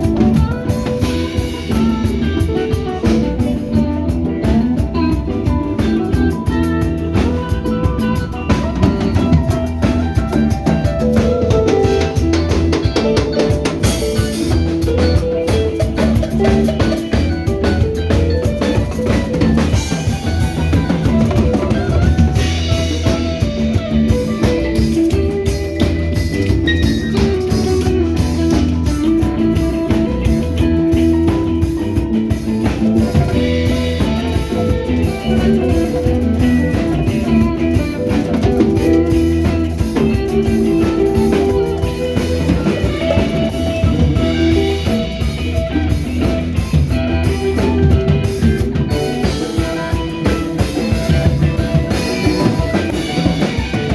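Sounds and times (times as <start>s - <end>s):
drum kit: 0.0s - 53.9s
guitar lines: 0.0s - 53.9s.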